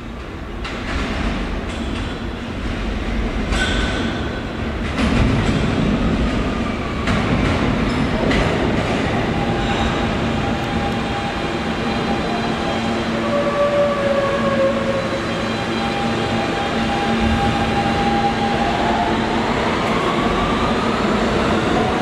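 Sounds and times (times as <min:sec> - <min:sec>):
subway train running on track: 0:00.0 - 0:22.0.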